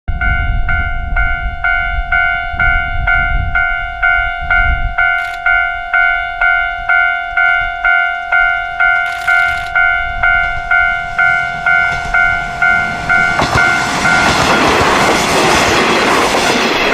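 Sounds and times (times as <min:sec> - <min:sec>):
level crossing bell clanging: 0:00.1 - 0:14.6.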